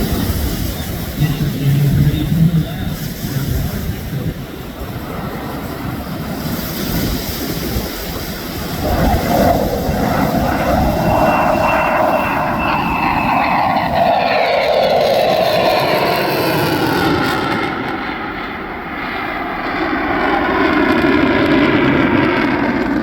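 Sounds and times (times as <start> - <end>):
high jet whine: 0.0 - 23.0
jet engine roar: 0.0 - 23.0.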